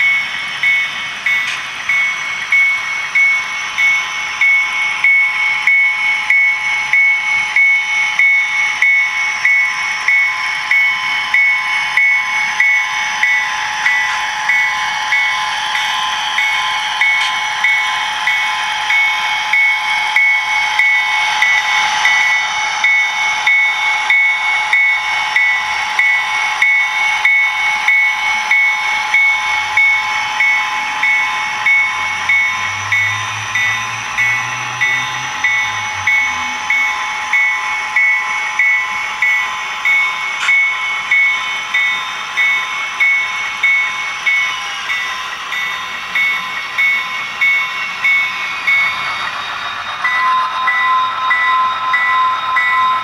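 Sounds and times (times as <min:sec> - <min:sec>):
diesel locomotive engine: 0:00.0 - 0:53.0
pulsing high tone: 0:00.0 - 0:53.0.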